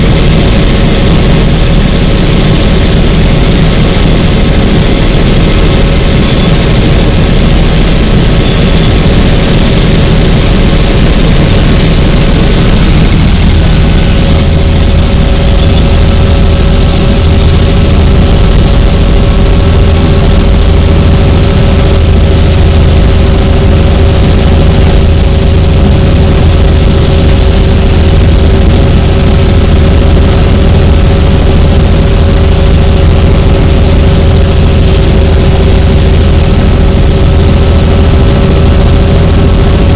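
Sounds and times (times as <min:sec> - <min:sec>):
high turbine whine: 0:00.0 - 0:39.9
low engine and rotor drone: 0:00.0 - 0:39.9.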